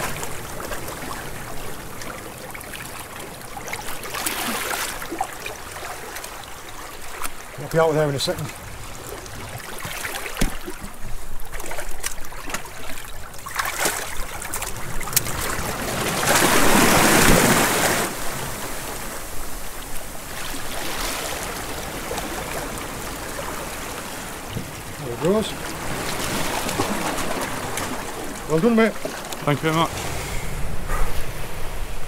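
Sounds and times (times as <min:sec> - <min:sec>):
churning splashing water: 0:00.0 - 0:32.0
seawater sloshing among rocks: 0:00.0 - 0:32.0.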